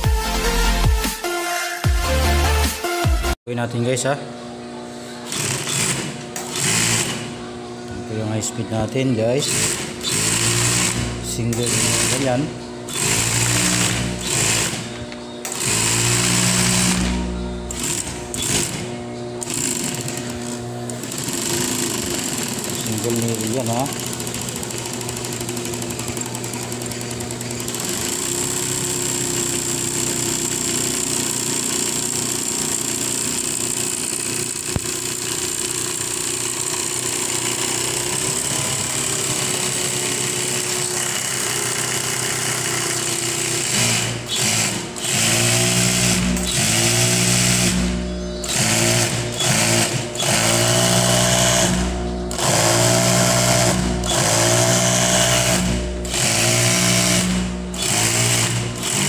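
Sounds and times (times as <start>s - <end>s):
sewing machine running: 5.3s - 7.5s, 8.6s - 59.0s.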